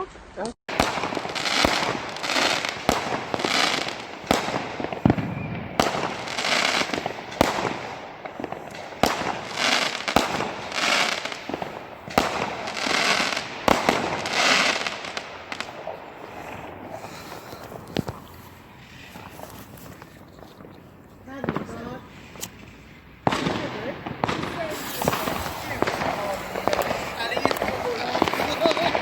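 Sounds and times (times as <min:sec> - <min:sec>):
fireworks bangs: 0:00.7 - 0:29.0
fireworks hissing whooshes: 0:00.7 - 0:29.0.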